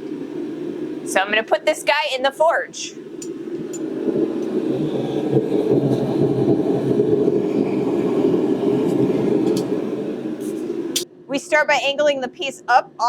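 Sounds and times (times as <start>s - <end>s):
forge fire rushing: 0.2s - 11.0s.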